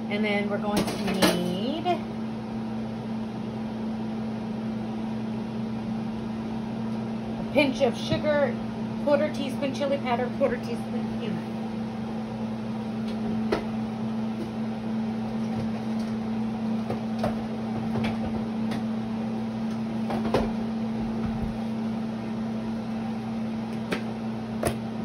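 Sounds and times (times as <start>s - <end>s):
appliance electrical hum: 0.0s - 25.0s.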